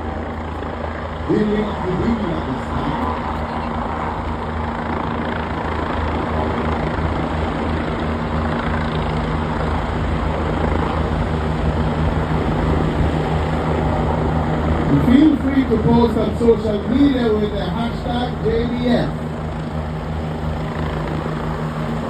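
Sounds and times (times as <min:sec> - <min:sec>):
helicopters flying past: 0:00.0 - 0:22.0.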